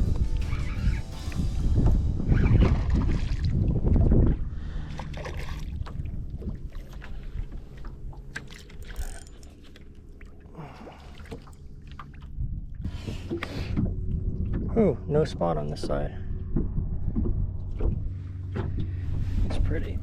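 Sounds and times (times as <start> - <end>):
wind rumble on microphone: 0.0 - 9.2, 12.1 - 20.0
boat motor humming: 0.0 - 20.0.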